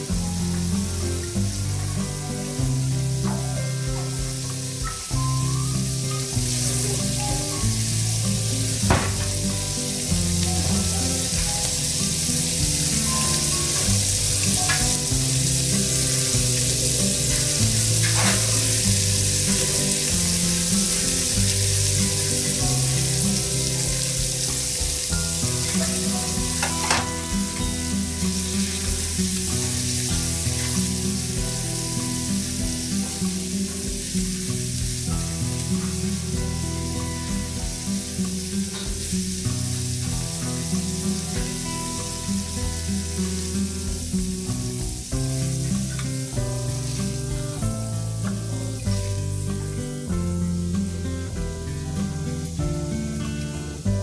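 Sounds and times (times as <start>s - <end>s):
background music with low notes: 0.0s - 54.0s
meat sizzling on a griddle: 0.0s - 54.0s.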